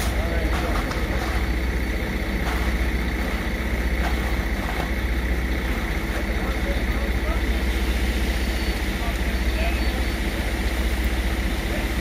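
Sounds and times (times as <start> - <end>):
diesel engine low rumble: 0.0 - 12.0.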